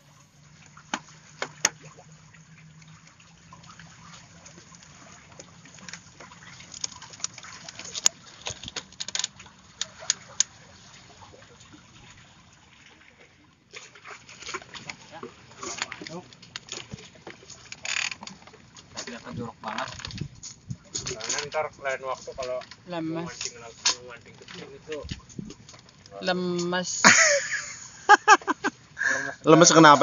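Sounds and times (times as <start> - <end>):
water sloshing and trickling: 0.0 - 30.0.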